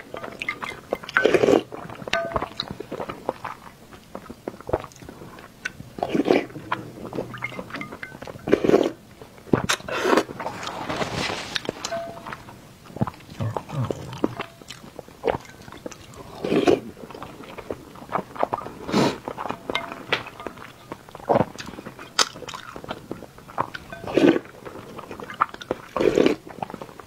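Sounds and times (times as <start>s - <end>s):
person chewing: 0.0s - 26.9s.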